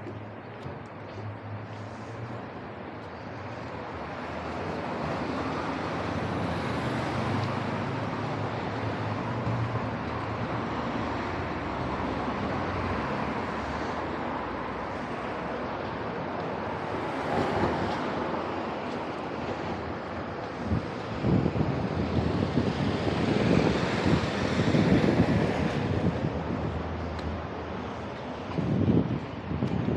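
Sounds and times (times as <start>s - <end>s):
cars driving through intersection: 0.0s - 29.9s.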